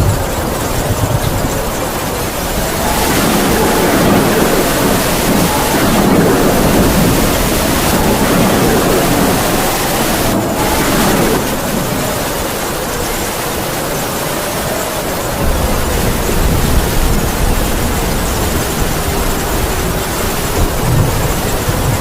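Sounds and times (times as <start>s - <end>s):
heavy rain pouring: 0.0s - 22.0s
howling wind: 0.0s - 22.0s.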